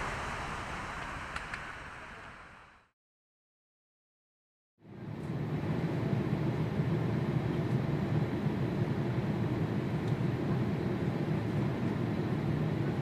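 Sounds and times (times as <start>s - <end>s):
airliner cabin drone: 0.0s - 2.9s, 4.8s - 13.0s.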